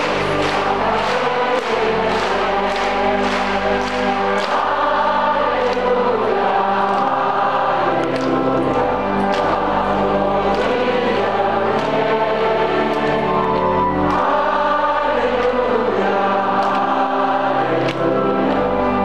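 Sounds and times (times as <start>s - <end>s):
congregation and choir singing hymn: 0.0s - 19.0s.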